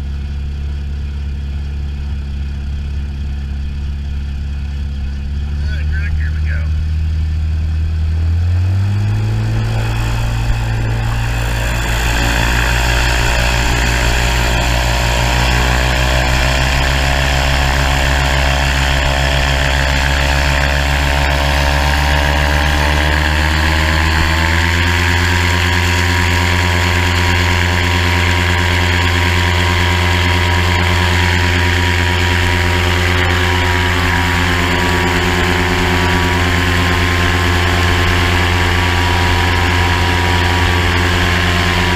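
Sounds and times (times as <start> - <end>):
aircraft engine and propeller: 0.0 - 41.9.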